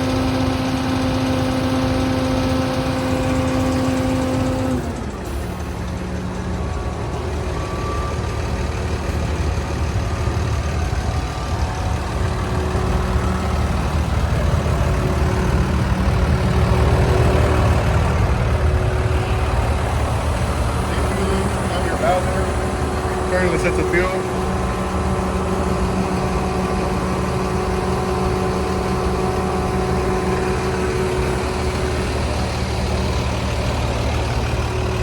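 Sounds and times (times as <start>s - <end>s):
fuel pump hum: 0.0s - 35.0s
truck engine rumble: 0.0s - 35.0s.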